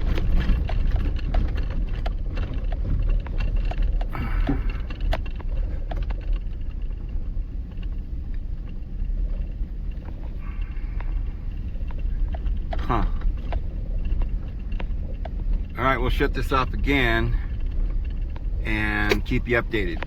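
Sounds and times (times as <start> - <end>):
engine and tyres rumbling: 0.0 - 20.0
vehicle knocking and rattling: 0.0 - 20.0.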